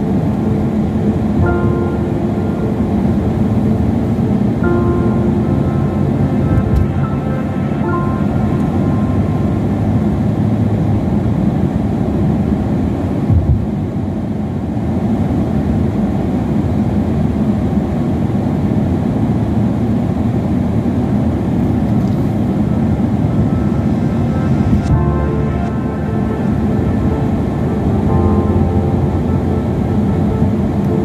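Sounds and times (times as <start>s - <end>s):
car tyres and engine rumble: 0.0s - 31.0s.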